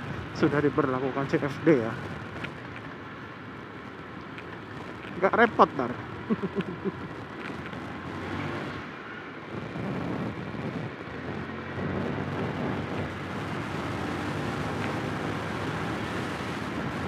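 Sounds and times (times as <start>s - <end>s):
road and wind rush: 0.0s - 17.0s.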